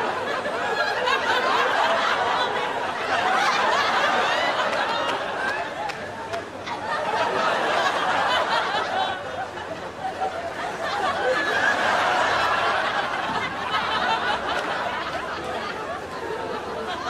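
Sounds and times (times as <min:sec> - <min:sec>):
crowd chatter: 0:00.0 - 0:17.0
crowd laughing: 0:00.0 - 0:17.0.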